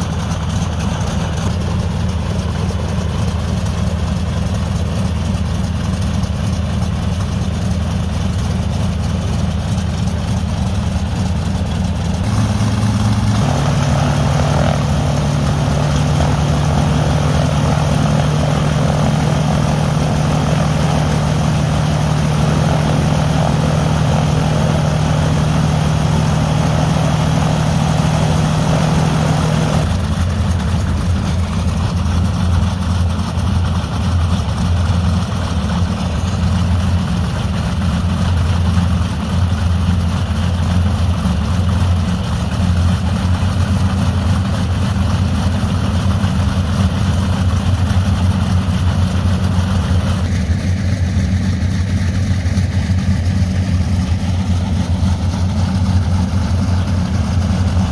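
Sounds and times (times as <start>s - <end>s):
piston engines with propellers: 0.0s - 57.9s.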